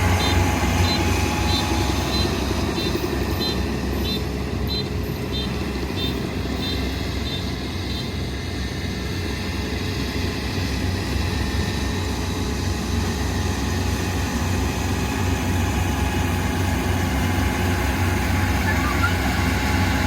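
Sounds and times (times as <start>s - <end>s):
combine harvester engine running: 0.0s - 20.0s.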